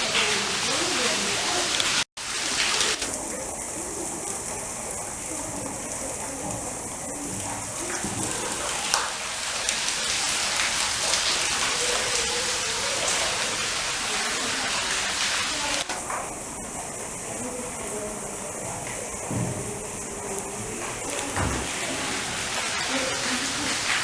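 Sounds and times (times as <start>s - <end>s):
running water splashing: 0.0s - 24.0s.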